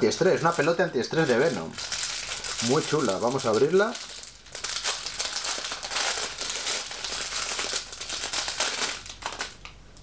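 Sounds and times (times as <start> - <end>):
plastic wrapper crinkling: 0.0 - 9.8.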